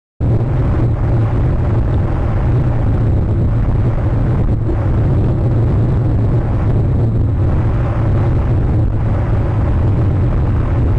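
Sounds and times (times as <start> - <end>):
wind buffeting microphone: 0.2 - 10.9.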